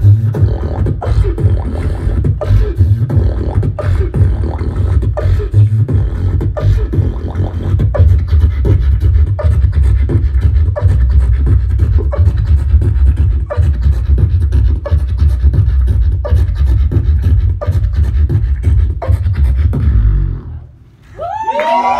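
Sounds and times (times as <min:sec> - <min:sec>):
distorted bass music: 0:00.0 - 0:20.7.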